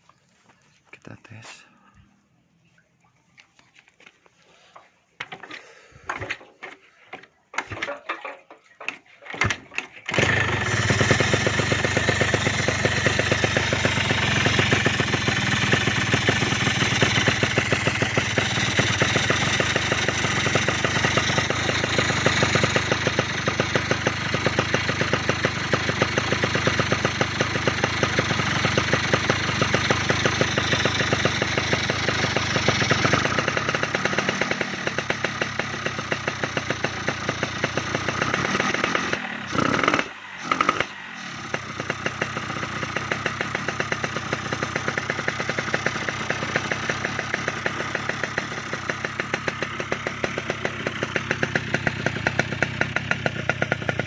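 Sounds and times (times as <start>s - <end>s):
two-stroke engine running fast: 9.4s - 54.0s.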